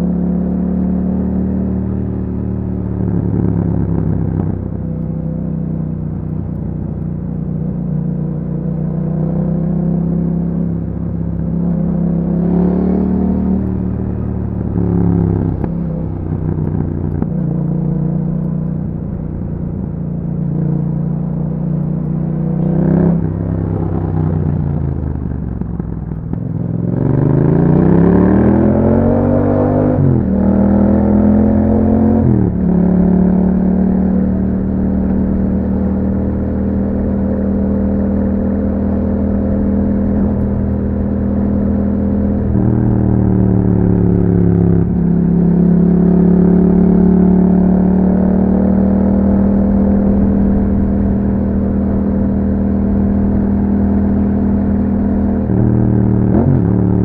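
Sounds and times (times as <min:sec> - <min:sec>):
motorcycle engine revving: 0:08.6 - 0:57.0.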